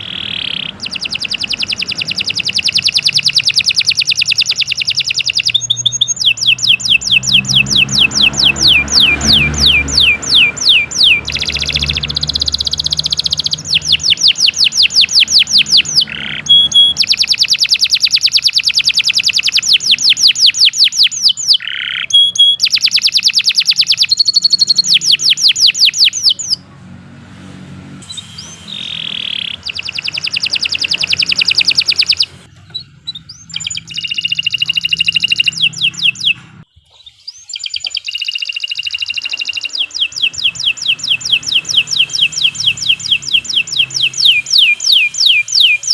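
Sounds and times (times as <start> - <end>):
canary singing trills: 0.0 - 26.7, 28.0 - 45.9.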